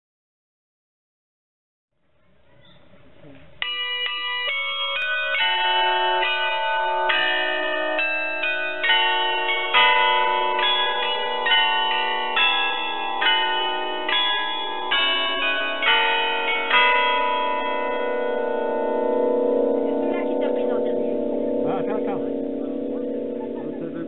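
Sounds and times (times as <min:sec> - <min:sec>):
carillon bells playing a tune: 0:03.6 - 0:24.0.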